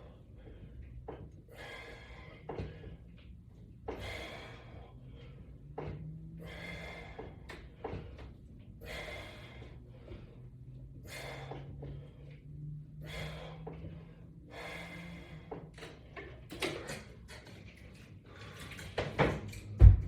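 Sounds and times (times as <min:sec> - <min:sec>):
man breathing hard: 0:00.0 - 0:16.4.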